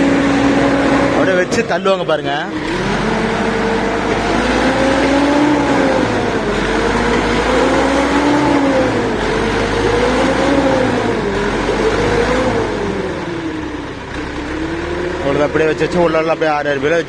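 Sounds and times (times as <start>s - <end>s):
machine engine working under load: 0.0s - 17.0s.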